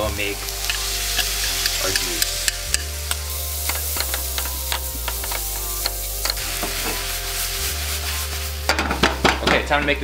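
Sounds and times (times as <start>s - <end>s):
food sizzling in frying pan: 0.0s - 9.9s.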